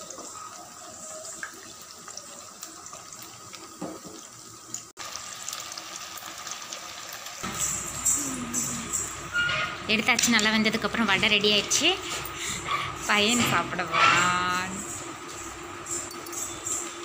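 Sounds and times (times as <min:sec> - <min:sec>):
oil sizzling while deep-frying: 0:00.0 - 0:17.0.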